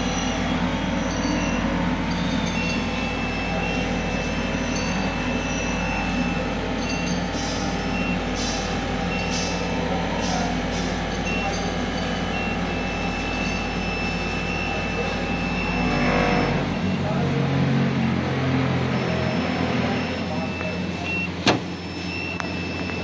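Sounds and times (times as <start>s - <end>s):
machine humming and whirring: 0.0s - 23.0s.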